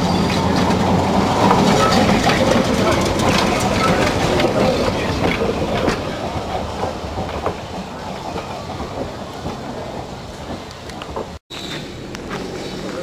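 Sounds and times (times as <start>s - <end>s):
trolley car running on rails: 0.0s - 13.0s
wheels clicking over rail joints: 0.0s - 13.0s.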